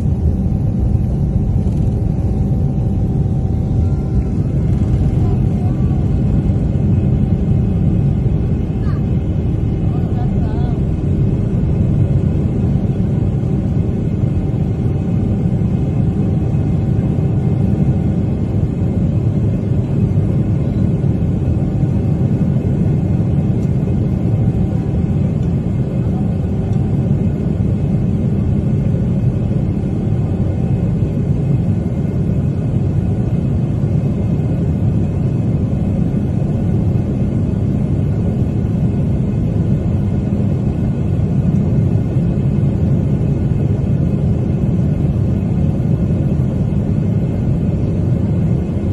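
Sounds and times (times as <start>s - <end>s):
jet engines rumbling in cabin: 0.0s - 48.9s.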